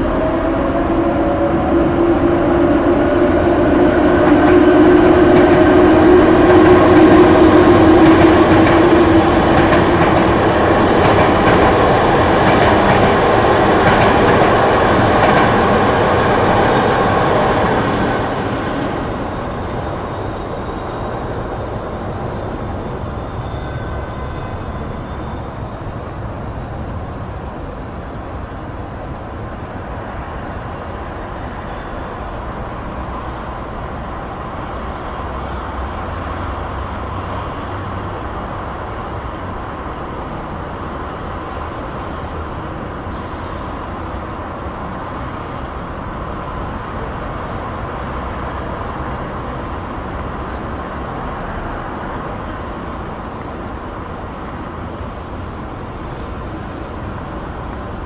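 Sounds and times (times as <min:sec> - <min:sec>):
distant motorway traffic rumble: 0:00.0 - 0:58.0.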